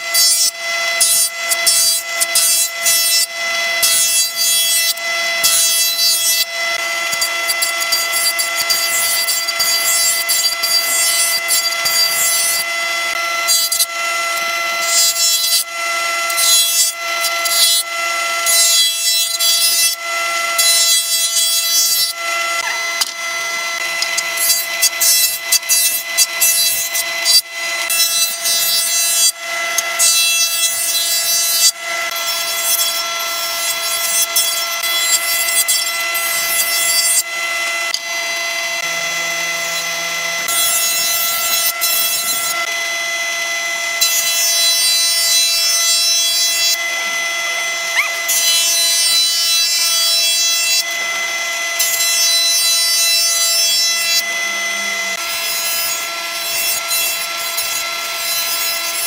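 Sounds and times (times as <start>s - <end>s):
cutterhead planing boards: 0.0s - 59.0s
jointer motor whine: 0.0s - 59.0s.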